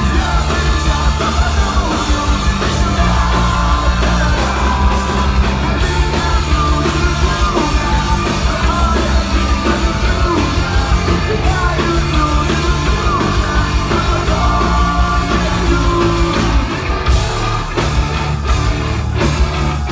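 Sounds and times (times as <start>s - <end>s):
person singing and shouting: 0.0s - 18.3s
punk rock band playing: 0.0s - 19.9s.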